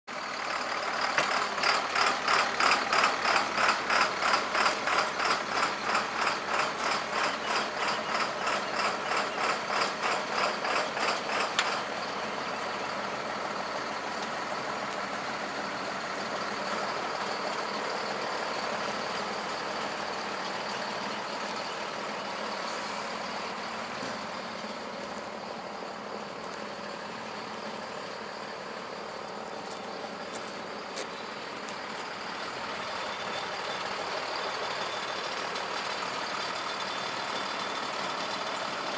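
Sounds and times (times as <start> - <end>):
tractor engine running: 0.1 - 38.9.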